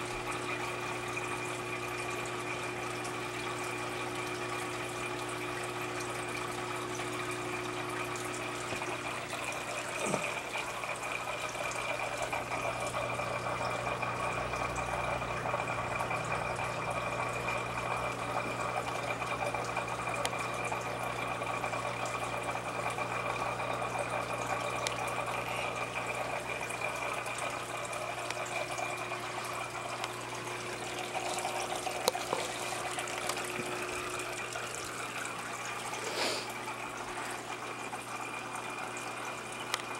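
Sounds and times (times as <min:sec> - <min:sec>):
pump humming: 0:00.0 - 0:39.9
water splashing and trickling: 0:04.0 - 0:39.9.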